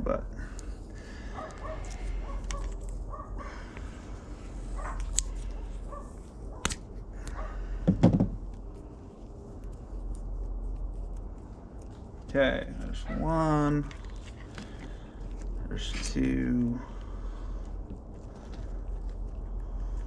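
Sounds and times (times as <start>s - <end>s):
steady low hum: 0.0s - 20.0s
tape and wires rustling: 0.4s - 20.0s.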